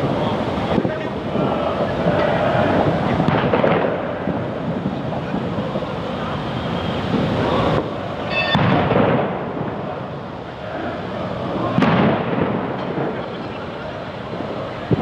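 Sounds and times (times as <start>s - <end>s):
sharp firework crack: 0.0s - 10.1s, 11.5s - 13.7s
fireworks rumbling: 0.0s - 15.0s.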